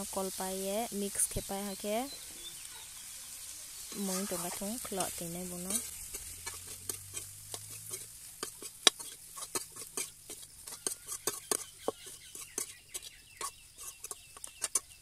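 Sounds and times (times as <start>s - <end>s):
onions frying: 0.0s - 15.0s
metal spatula scraping a pan: 1.6s - 15.0s.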